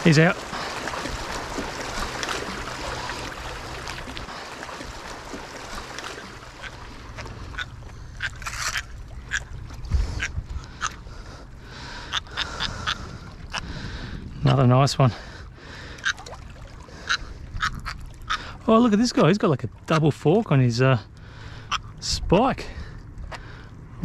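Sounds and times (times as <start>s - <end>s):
water lapping against rocks: 0.0s - 20.2s.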